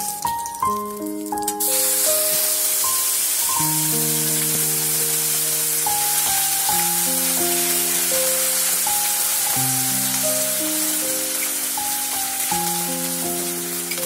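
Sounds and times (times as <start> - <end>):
background music with sustained notes: 0.0 - 14.0
oil sizzling in a wok: 0.0 - 14.0.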